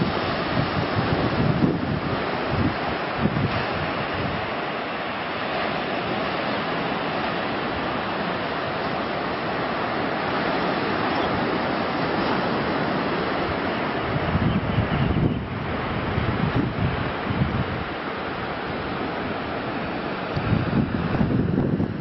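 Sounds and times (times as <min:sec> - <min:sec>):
surf breaking on a beach: 0:00.0 - 0:22.0
wind: 0:00.0 - 0:22.0
wind gusting on microphone: 0:00.0 - 0:22.0.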